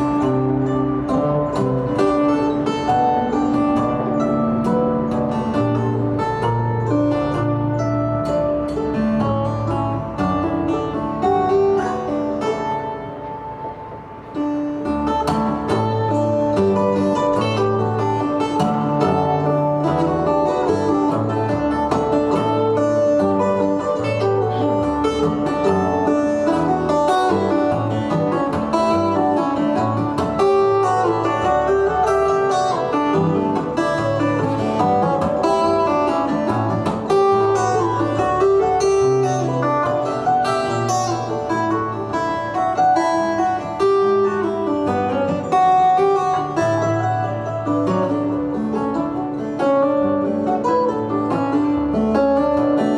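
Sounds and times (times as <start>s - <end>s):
acoustic guitar music: 0.0s - 52.9s.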